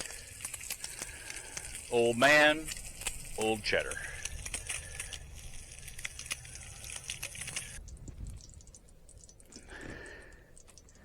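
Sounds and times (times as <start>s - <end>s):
stick fire crackling: 0.0s - 11.0s.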